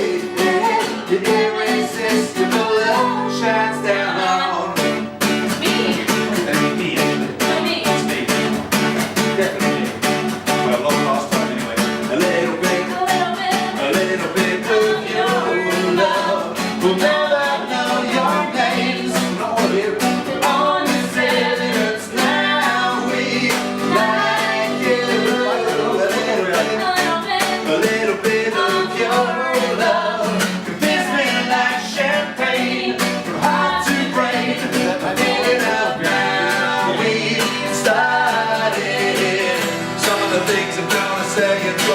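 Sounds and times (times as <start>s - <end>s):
person singing: 0.0s - 8.6s, 10.8s - 41.9s
acoustic guitar strumming: 0.0s - 41.9s.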